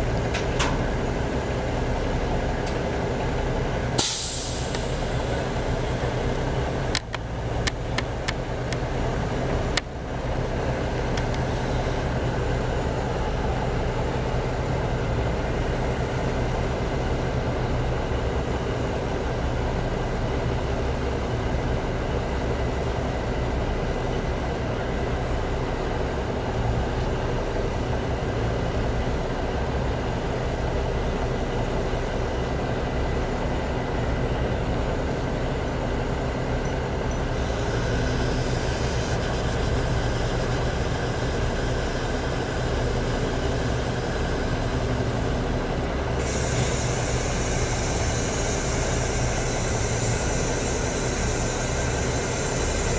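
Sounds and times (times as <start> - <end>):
diesel engine humming: 0.0 - 52.9.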